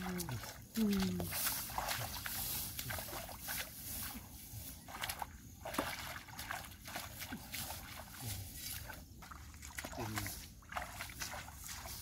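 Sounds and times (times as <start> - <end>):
splashing in muddy water: 0.0 - 12.0.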